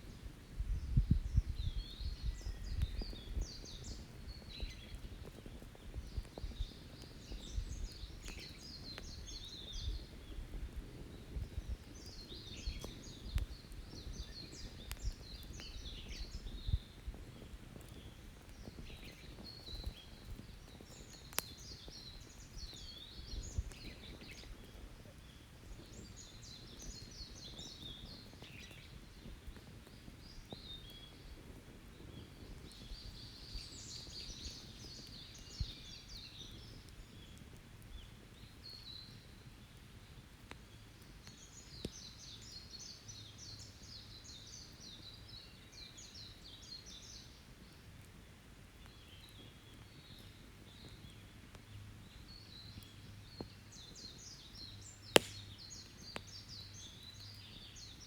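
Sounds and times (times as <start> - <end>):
campfire rumbling and cracking: 0.0 - 58.0
songbird singing: 0.1 - 47.8, 48.8 - 58.0.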